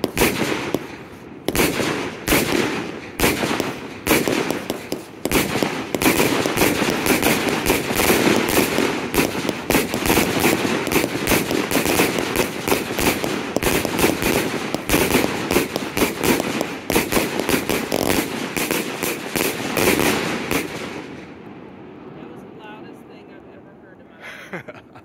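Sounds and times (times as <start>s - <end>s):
firework cake bangs and crackling: 0.0s - 21.4s.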